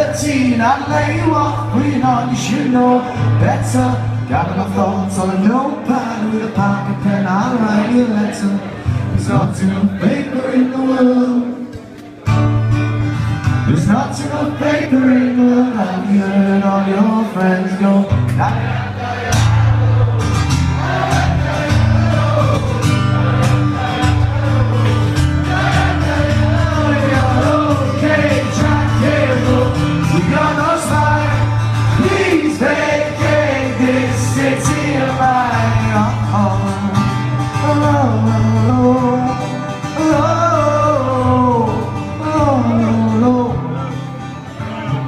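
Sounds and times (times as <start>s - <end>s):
acoustic guitar strumming: 0.0s - 45.0s.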